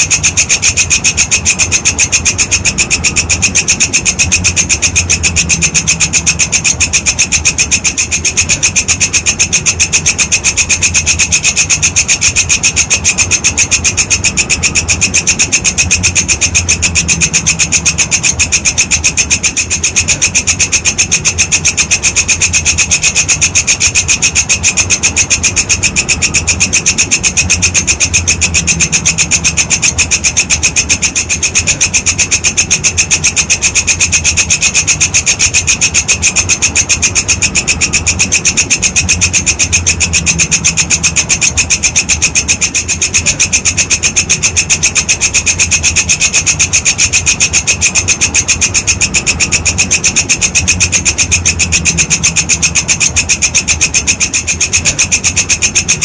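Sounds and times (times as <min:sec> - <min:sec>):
insect rasping call: 0:00.0 - 0:56.0
low background rumble: 0:00.0 - 0:56.0.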